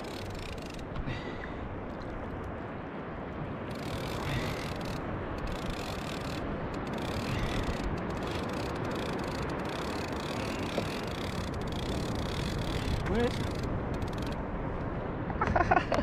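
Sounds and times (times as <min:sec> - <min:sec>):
sea water around kayak: 0:00.0 - 0:16.0
wind on microphone: 0:00.0 - 0:16.0.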